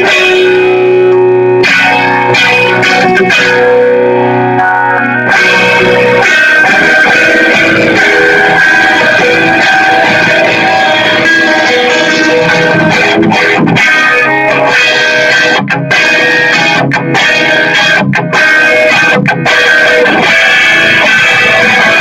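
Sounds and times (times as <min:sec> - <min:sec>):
electric guitar sustained notes: 0:00.0 - 0:22.0.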